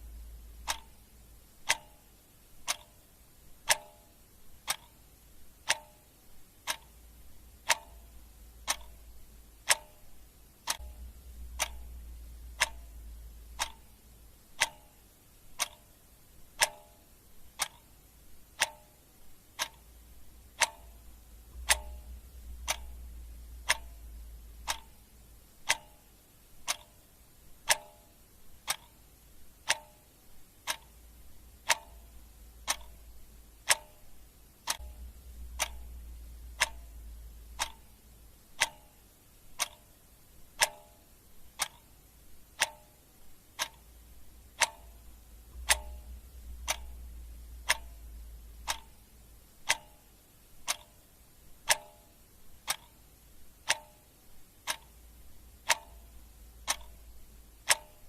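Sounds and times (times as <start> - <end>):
clock ticking: 0.0 - 58.0
faint low hum: 0.0 - 58.0.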